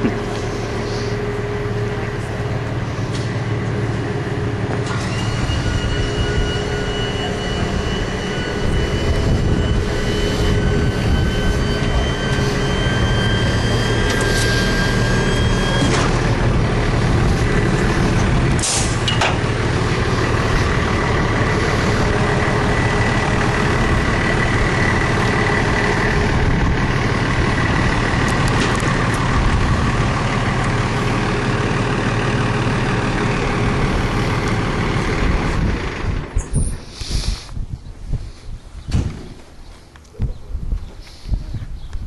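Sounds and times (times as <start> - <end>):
fire engine running: 0.0 - 40.2.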